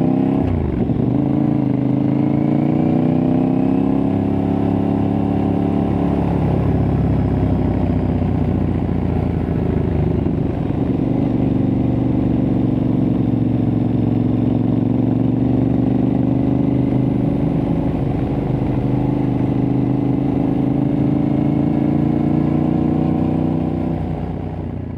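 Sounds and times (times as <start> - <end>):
motorcycle engine cruising: 0.0 - 24.9.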